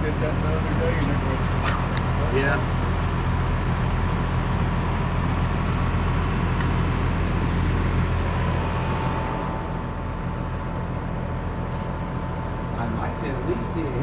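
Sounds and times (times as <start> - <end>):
heat pump hum: 0.0 - 14.0.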